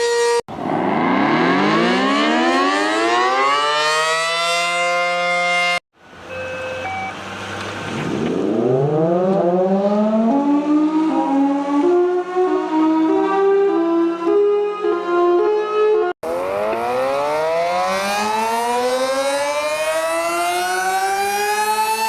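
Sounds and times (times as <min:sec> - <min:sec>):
tornado warning siren: 0:00.0 - 0:05.8, 0:07.9 - 0:22.0.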